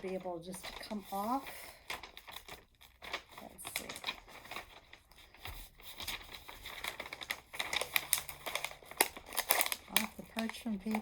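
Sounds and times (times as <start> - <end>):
parchment paper crinkling: 0.0 - 11.0.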